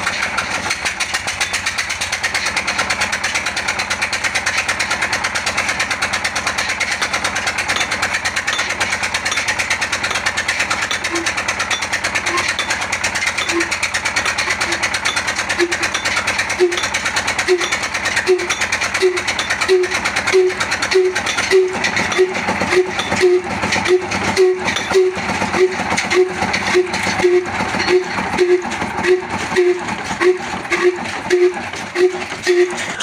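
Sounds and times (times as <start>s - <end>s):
diesel engine clattering: 0.0s - 33.0s.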